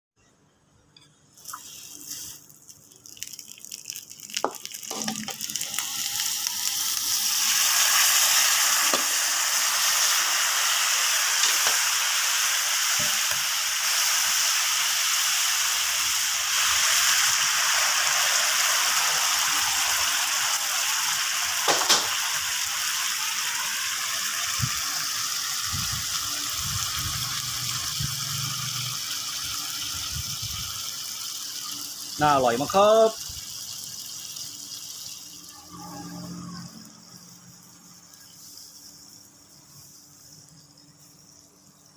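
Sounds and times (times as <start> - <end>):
food sizzling in hot oil: 1.3 - 41.9.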